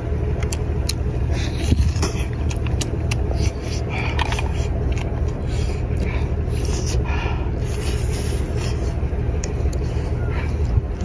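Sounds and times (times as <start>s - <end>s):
steady low rumble: 0.0s - 11.0s
slurping and chewing: 0.4s - 10.7s.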